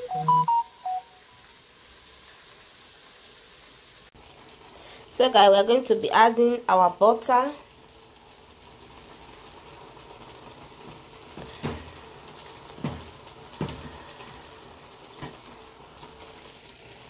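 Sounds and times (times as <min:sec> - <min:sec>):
low sizzle: 0:00.0 - 0:17.0.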